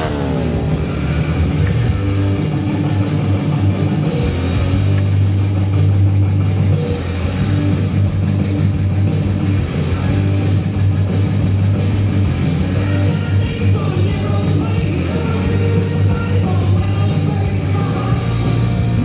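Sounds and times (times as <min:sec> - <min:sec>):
loud rock music: 0:00.0 - 0:19.0.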